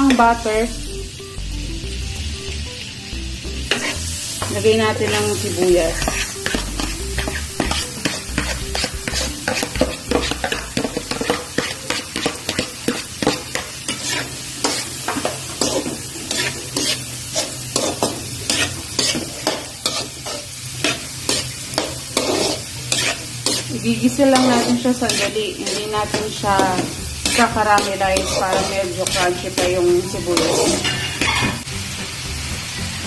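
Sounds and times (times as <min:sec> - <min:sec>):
onions sizzling in a frying pan: 0:00.0 - 0:33.0
spatula scraping a pan: 0:03.7 - 0:31.7.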